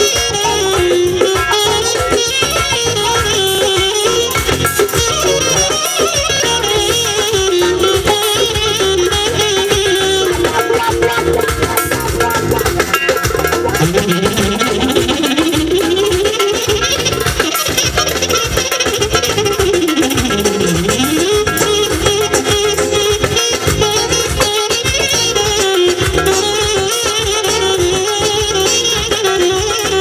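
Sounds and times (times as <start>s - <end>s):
live band playing dance music: 0.0s - 30.0s
saxophone melody: 0.0s - 30.0s.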